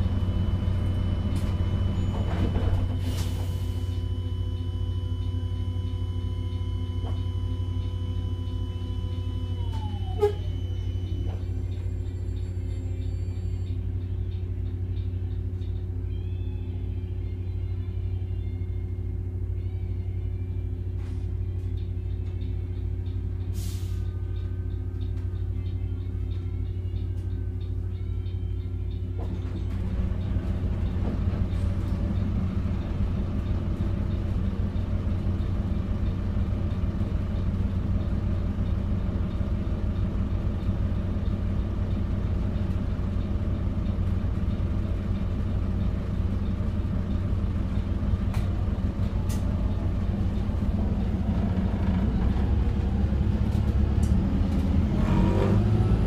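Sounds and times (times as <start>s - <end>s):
bus engine hum: 0.0s - 56.0s
bus pulling away: 0.0s - 56.0s.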